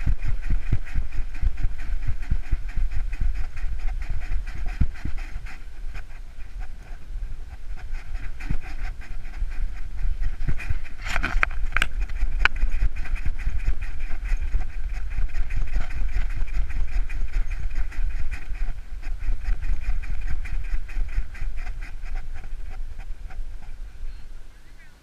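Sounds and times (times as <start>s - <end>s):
dog panting: 0.0s - 23.8s
rubbing on camera: 0.0s - 24.4s
wind rumble: 0.0s - 25.0s.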